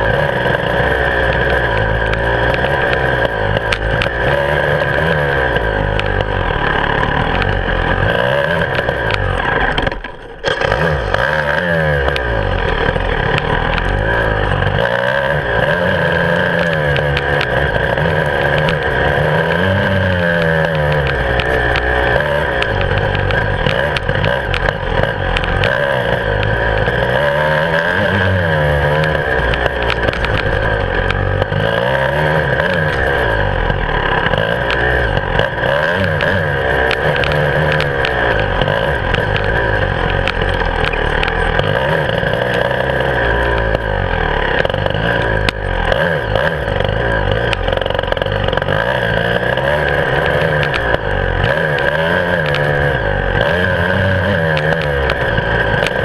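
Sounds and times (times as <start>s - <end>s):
clicks and rattles: 0.0s - 11.4s, 12.0s - 53.5s, 54.2s - 56.0s
motorcycle engine revving: 0.0s - 56.0s.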